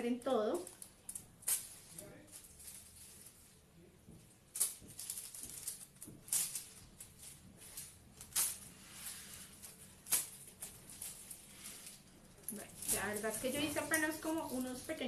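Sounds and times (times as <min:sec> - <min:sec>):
metallic foil crinkling: 0:00.0 - 0:15.0
sharp foil crackles: 0:00.2 - 0:03.7, 0:04.4 - 0:15.0.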